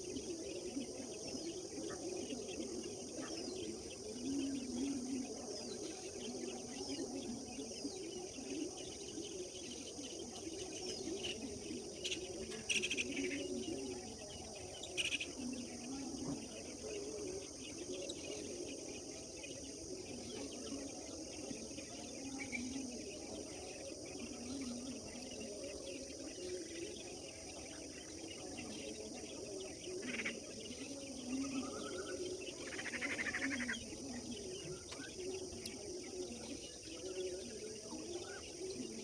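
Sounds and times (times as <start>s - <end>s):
crickets droning: 0.0s - 39.0s.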